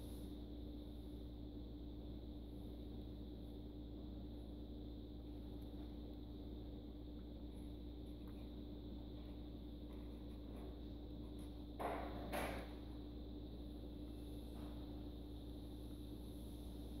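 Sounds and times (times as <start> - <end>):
constant mid-pitched tone: 0.0 - 17.0
faint high whine: 0.0 - 17.0.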